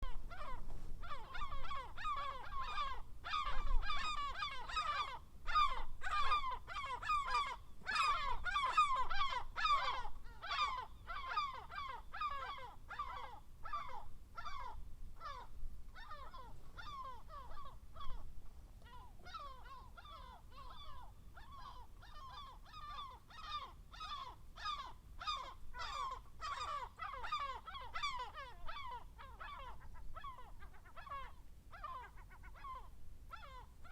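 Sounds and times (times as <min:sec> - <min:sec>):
seagulls squawking: 0:00.1 - 0:18.2, 0:18.9 - 0:33.9.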